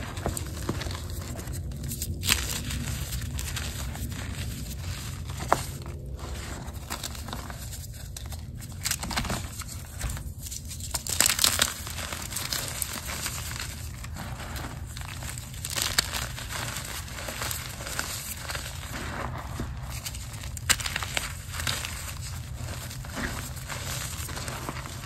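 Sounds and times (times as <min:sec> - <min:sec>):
chalk block crunching: 0:00.0 - 0:25.0.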